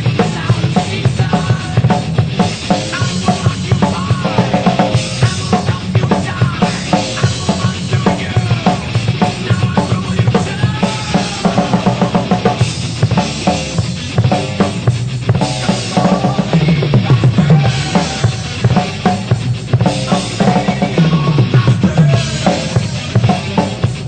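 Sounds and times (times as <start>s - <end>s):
drum kit playing rapid beat: 0.0s - 24.0s
heavy metal electric guitars: 0.0s - 24.0s.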